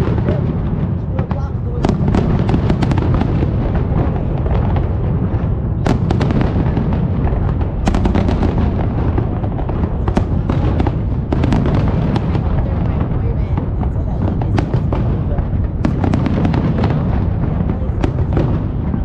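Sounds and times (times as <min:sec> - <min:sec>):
fireworks bangs and crackling: 0:00.0 - 0:19.0
fireworks rumble: 0:00.0 - 0:19.0.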